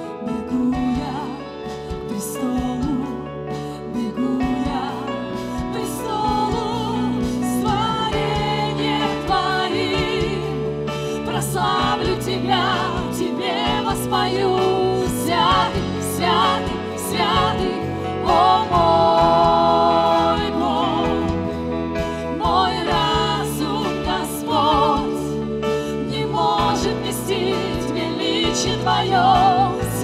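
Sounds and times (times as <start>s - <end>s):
voices singing with vibrato: 0.0s - 30.0s
worship band playing: 0.0s - 30.0s.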